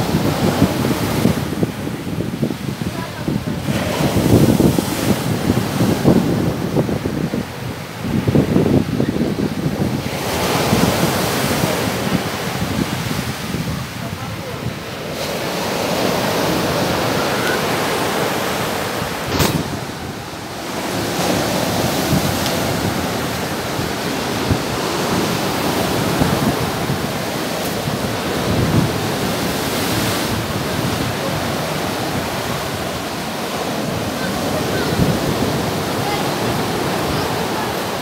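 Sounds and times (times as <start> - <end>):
waves crashing on pebble beach: 0.0 - 38.0
wind buffeting microphone: 0.0 - 38.0.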